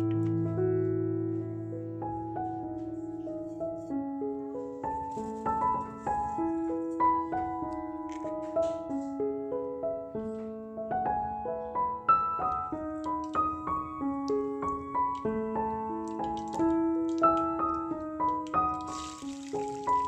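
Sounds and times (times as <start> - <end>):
piano melody: 0.0 - 20.0.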